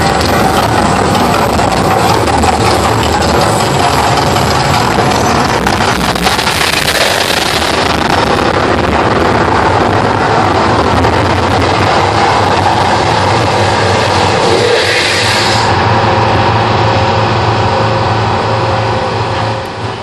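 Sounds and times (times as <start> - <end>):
gas fire jets rushing: 0.0 - 17.6
low rumble: 0.0 - 20.0.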